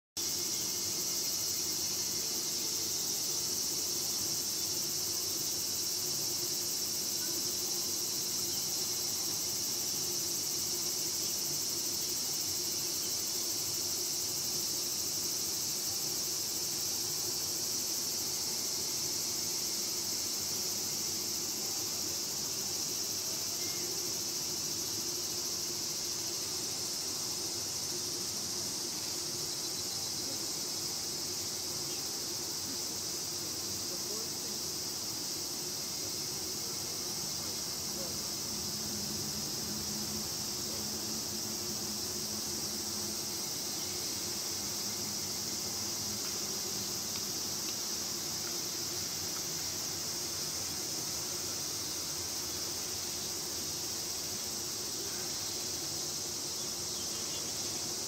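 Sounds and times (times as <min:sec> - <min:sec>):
insects buzzing: 0:00.2 - 0:58.0.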